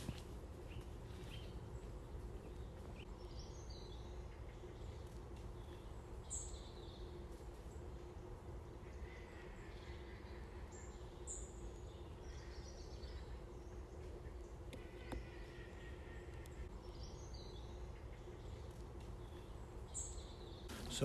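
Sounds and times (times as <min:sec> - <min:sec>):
faint birds chirping: 0:00.0 - 0:21.0
low outdoor rumble: 0:00.0 - 0:21.0.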